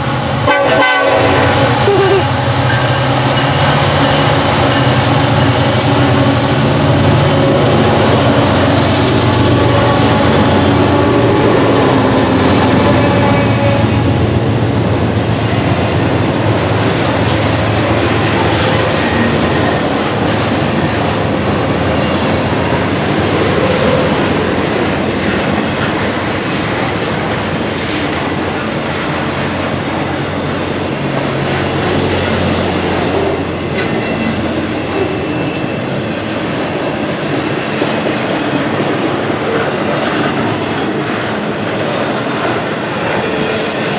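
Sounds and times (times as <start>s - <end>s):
diesel locomotive engine drone: 0.0s - 43.9s
train wheels clacking over rails: 0.0s - 43.9s.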